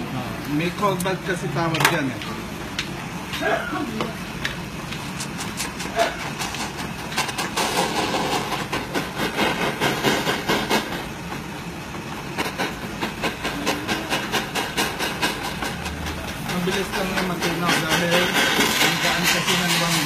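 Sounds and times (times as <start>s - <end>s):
gas torch flame hissing: 2.4s - 20.0s.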